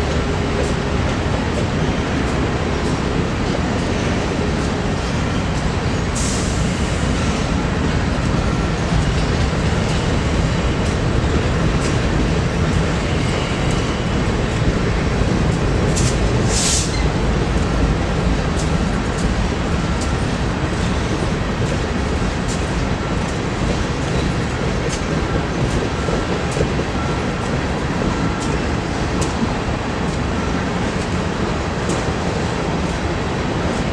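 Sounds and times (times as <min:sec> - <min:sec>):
freight train wheels rumbling: 0:00.0 - 0:33.9
train clicks and clanks: 0:00.0 - 0:33.9.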